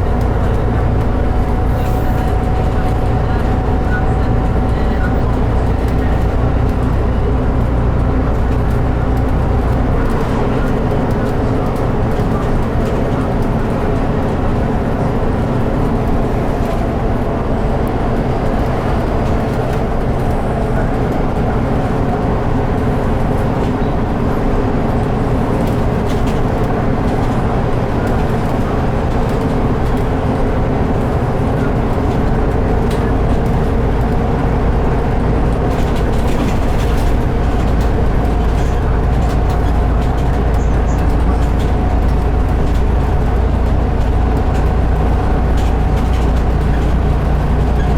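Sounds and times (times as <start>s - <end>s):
bus diesel engine drone: 0.0s - 47.9s
road and tyre rumble: 0.0s - 47.9s.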